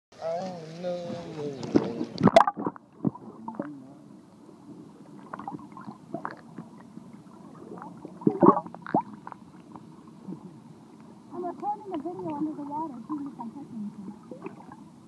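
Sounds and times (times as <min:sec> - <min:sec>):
muffled underwater gurgling: 0:01.6 - 0:04.2, 0:04.8 - 0:15.0.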